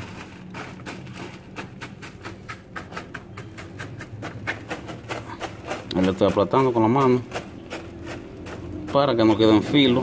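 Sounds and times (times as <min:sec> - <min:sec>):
gravel clicking and scraping: 0:00.0 - 0:10.0.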